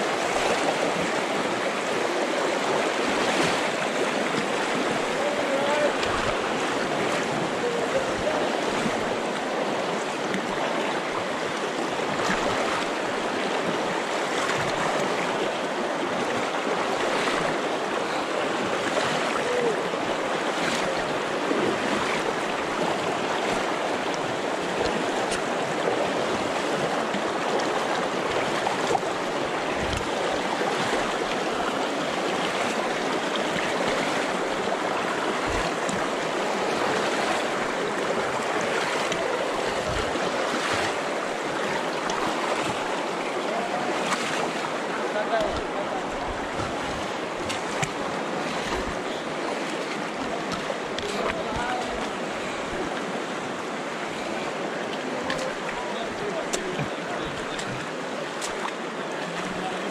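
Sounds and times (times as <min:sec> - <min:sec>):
river water over rocks: 0:00.0 - 0:59.9.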